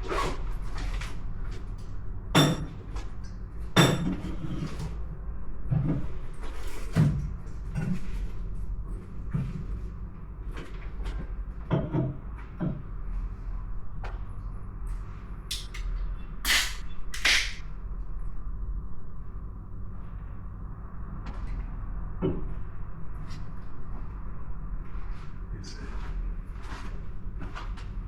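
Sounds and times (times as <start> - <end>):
steady low hum: 0.4 - 28.0.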